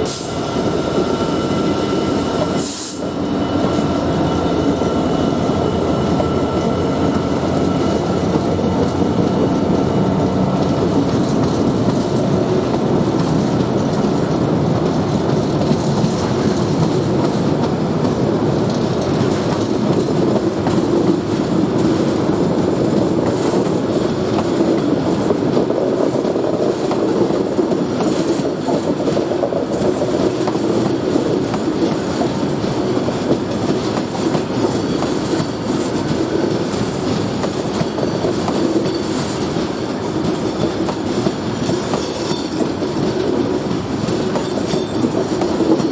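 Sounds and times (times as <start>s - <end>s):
freight train wheels rumbling on rails: 0.0s - 45.9s.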